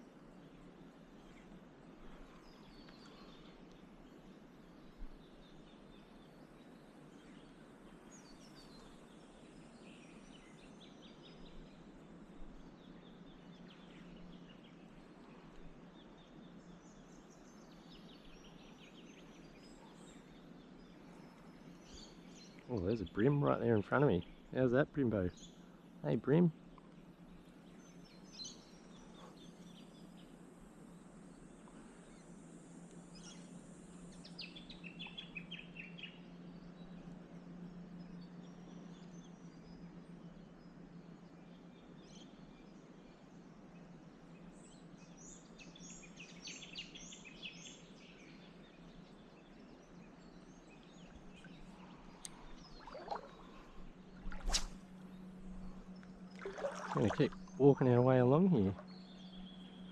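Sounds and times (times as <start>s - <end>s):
steady low hum: 0.0s - 59.9s
birds chirping: 0.1s - 32.4s, 33.0s - 59.9s.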